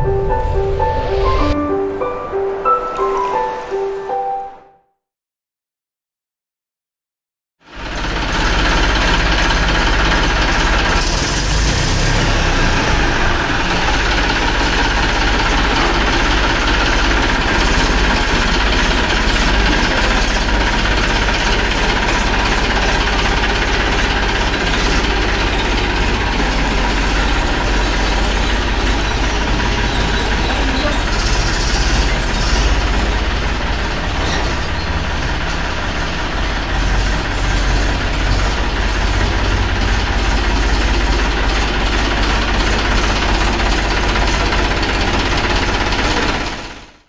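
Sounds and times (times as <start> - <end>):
tractor diesel engine idling: 7.7 - 47.0.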